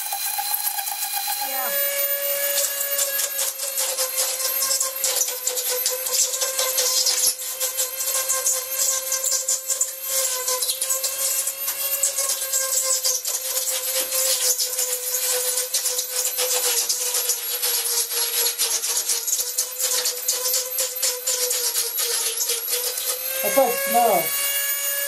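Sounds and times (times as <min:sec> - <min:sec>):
rotary tool whining: 0:00.0 - 0:25.0
bit grinding into foam board: 0:02.4 - 0:25.0.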